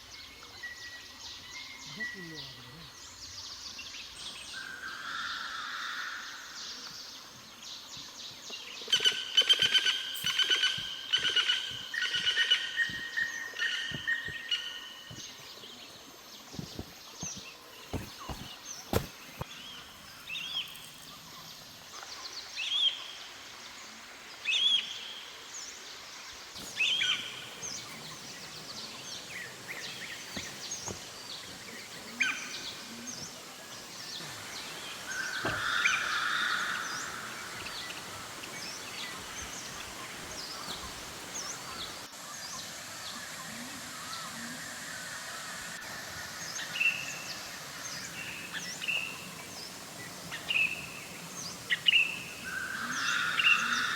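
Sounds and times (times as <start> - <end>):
faint insect hum: 0.0 - 53.9
forest birds chirping: 0.0 - 53.9.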